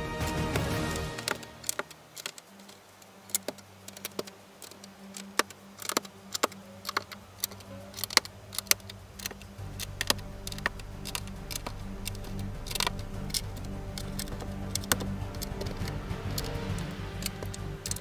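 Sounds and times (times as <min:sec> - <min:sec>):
plastic bricks clicking together: 0:00.5 - 0:18.0.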